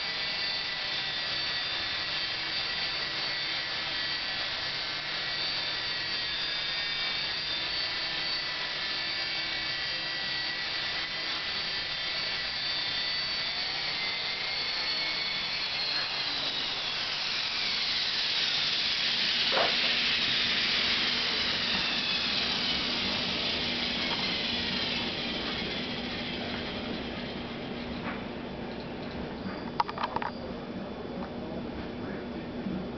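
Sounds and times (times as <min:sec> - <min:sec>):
rc helicopter motor whine: 0:00.0 - 0:31.4.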